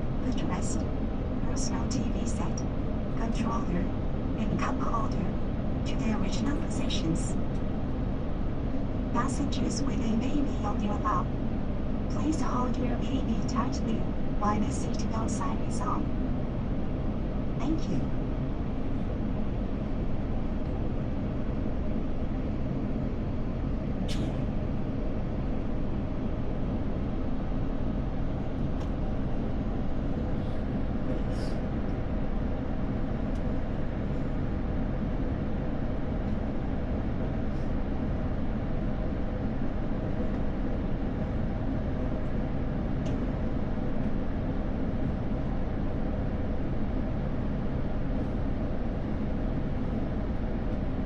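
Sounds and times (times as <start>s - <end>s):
jet airliner cabin rumble: 0.0s - 51.0s.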